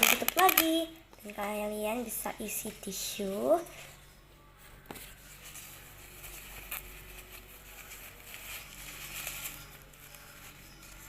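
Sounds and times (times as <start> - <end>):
cloth mask and tissue rustling: 0.0 - 11.0.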